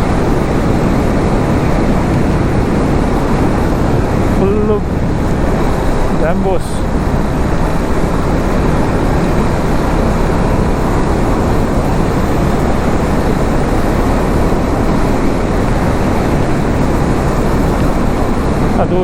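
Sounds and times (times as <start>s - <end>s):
motorcycle wind and road noise: 0.0s - 19.0s.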